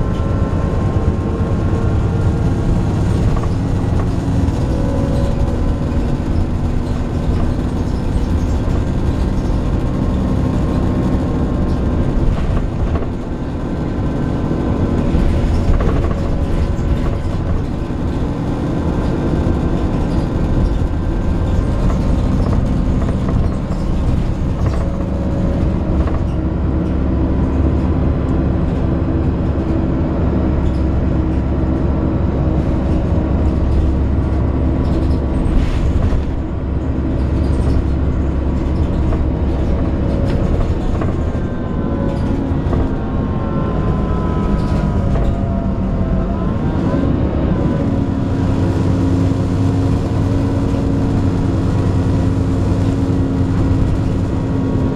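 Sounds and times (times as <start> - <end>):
bus engine drone: 0.0 - 54.9.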